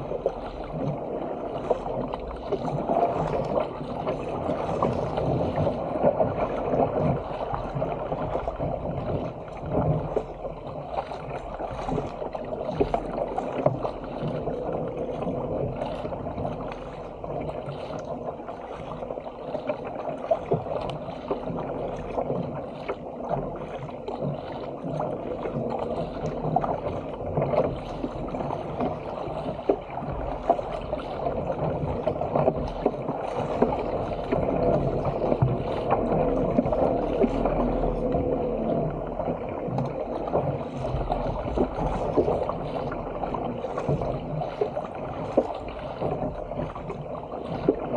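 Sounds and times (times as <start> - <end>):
paddle blades dipping in water: 0.0 - 47.9
water rushing along a hull: 0.0 - 47.9.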